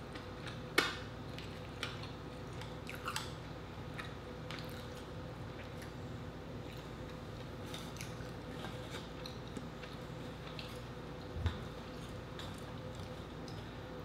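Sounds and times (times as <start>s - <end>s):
chewing noodles and rice: 0.0s - 14.0s
faint steady hum: 0.0s - 14.0s.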